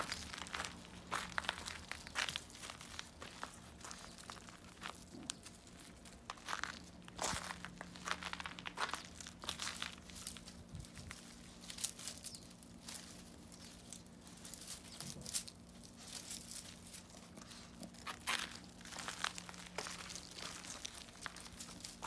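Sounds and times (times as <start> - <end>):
crunches on gravel: 0.0 - 22.0
rustling of leaves and ferns: 0.0 - 22.0.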